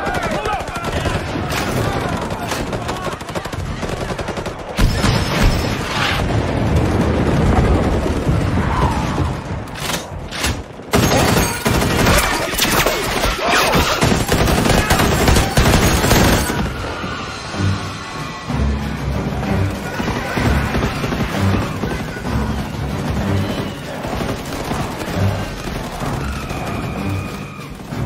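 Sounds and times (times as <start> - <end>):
rapid machine gun fire: 0.0 - 8.5, 10.9 - 16.7, 19.7 - 28.0.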